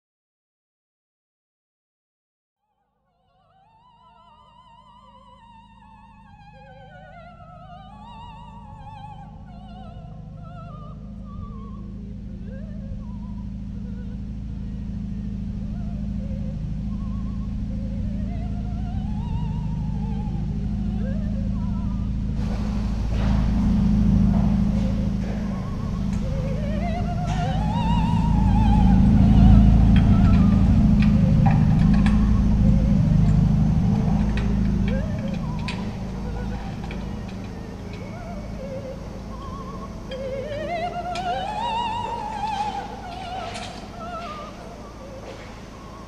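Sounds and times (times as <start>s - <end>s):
operatic singing with vibrato: 3.3s - 46.0s
low steady rumble: 3.8s - 46.0s.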